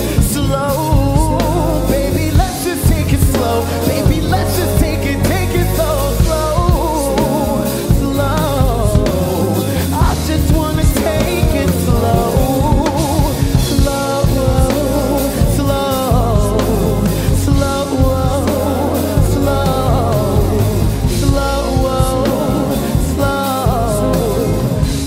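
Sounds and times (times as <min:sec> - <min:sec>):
slow r and b song by band: 0:00.0 - 0:25.0.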